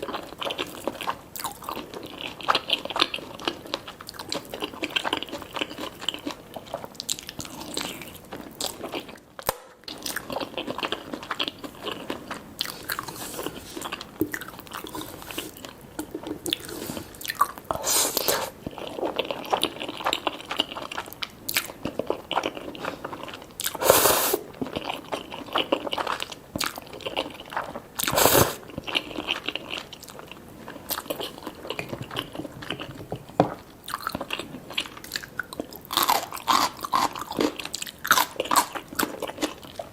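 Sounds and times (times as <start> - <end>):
chewing crunchy fried chicken: 0.0 - 39.9.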